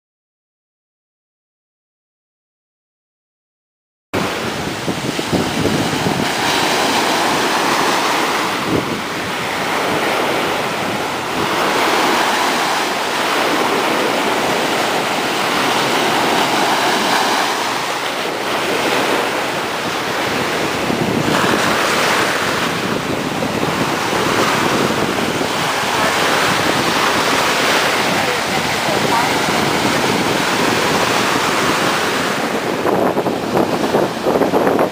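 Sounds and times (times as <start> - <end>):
ocean surf breaking: 4.2 - 34.9
wind buffeting microphone: 4.2 - 34.9.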